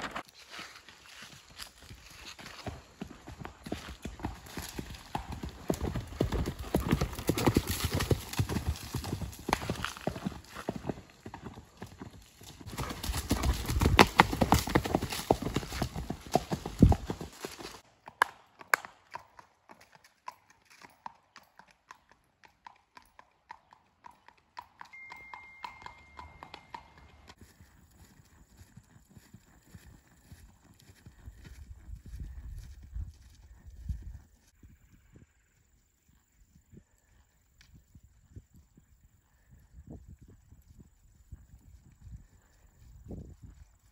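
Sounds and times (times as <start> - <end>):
horse hoofbeats: 1.4 - 43.9.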